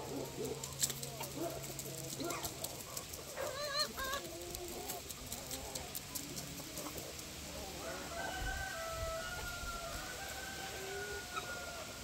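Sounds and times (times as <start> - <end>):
chickens calling and clucking: 0.0 - 12.0.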